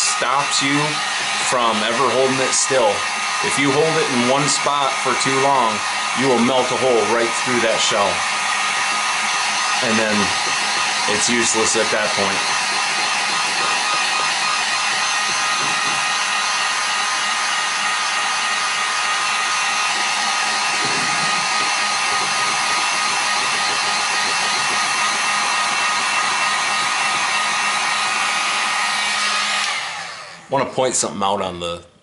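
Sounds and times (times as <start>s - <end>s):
heat gun blowing air: 0.0s - 30.5s.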